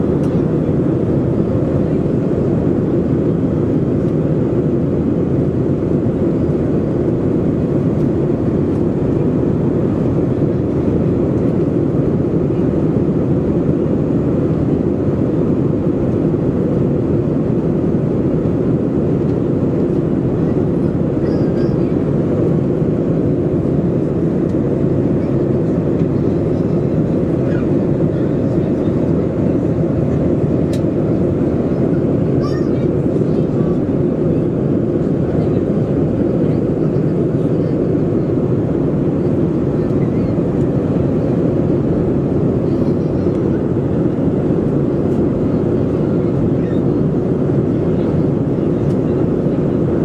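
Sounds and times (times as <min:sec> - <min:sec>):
jet engines droning in cabin: 0:00.0 - 0:50.0.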